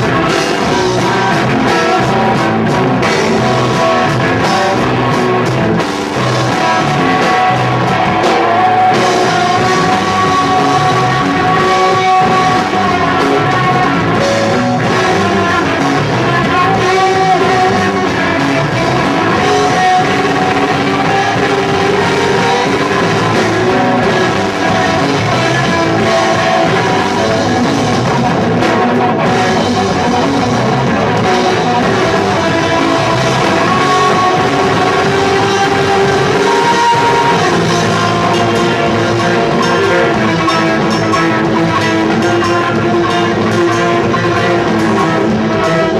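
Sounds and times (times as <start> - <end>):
rock band playing loudly: 0.0 - 45.9.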